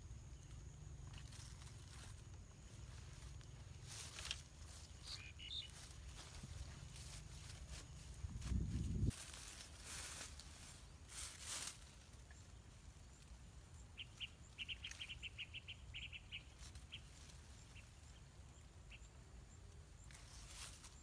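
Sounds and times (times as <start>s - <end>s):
small bird chirping: 0.1s - 9.1s, 11.6s - 21.0s
leaves rustling: 0.4s - 19.0s, 19.6s - 21.0s.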